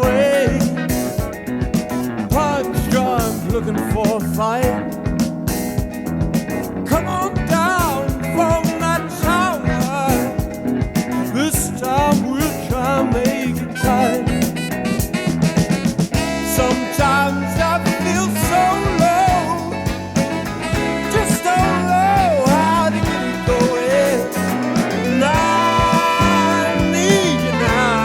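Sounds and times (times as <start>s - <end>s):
person singing: 0.0s - 1.4s, 2.3s - 5.2s, 6.9s - 15.4s, 16.2s - 28.0s
soft rock band: 0.0s - 28.0s.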